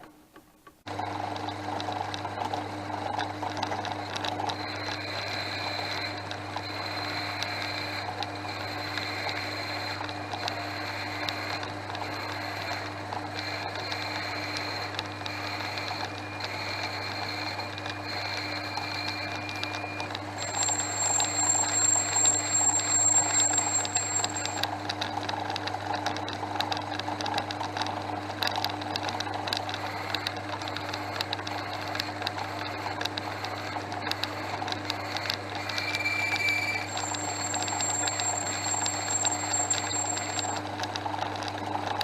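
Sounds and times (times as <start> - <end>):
lathe running with low hum: 0.9 - 42.0
high-pitched whine: 3.0 - 25.4, 29.0 - 40.8.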